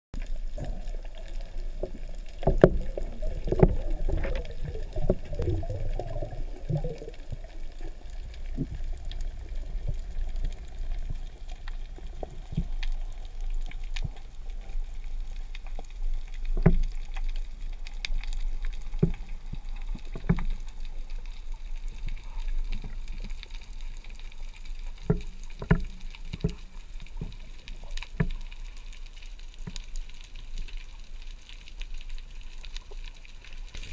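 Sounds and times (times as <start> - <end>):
muffled underwater rumble: 0.2 - 33.9.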